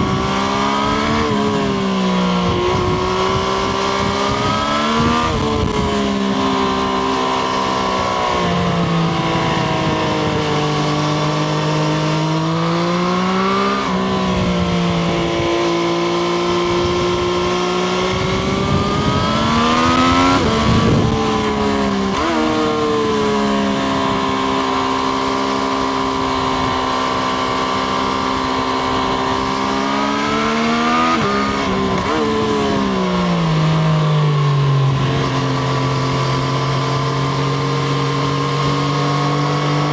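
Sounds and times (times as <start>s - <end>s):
wind rush: 0.0s - 12.8s, 13.6s - 33.5s
motorcycle engine accelerating: 0.0s - 39.9s.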